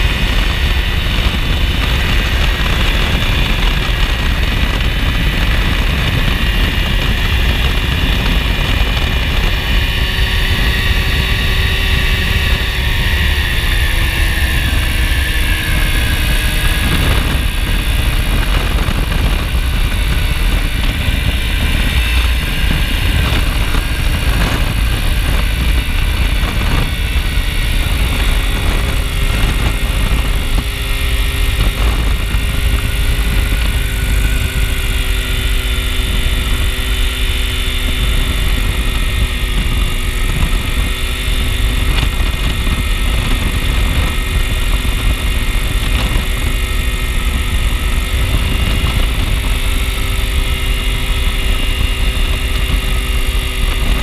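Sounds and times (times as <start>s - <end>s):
aircraft engine and propeller: 0.0s - 54.0s
wind rumble on microphone: 0.0s - 54.0s.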